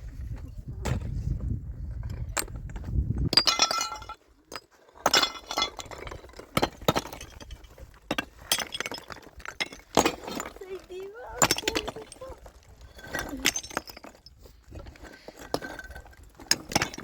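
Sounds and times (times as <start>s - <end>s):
hard objects clinking and clattering: 2.0s - 17.0s.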